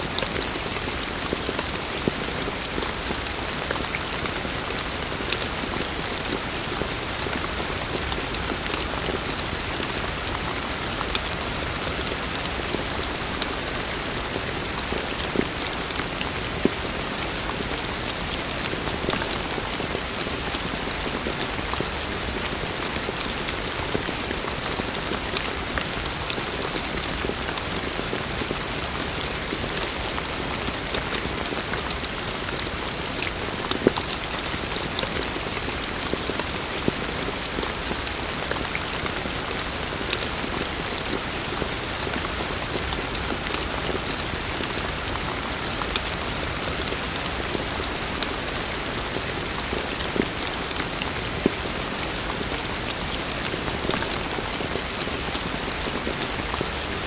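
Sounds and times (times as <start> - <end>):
raindrops ticking on hard surfaces: 0.0 - 57.0.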